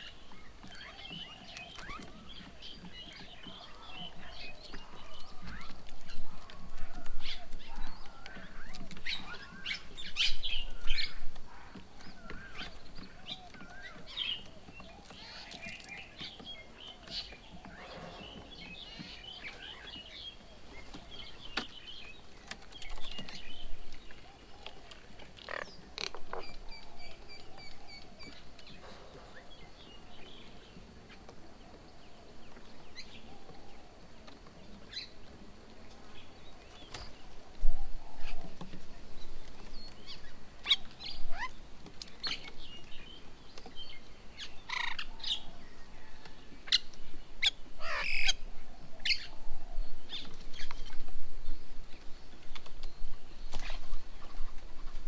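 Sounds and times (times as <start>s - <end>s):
birds calling and chirping: 0.0s - 55.0s.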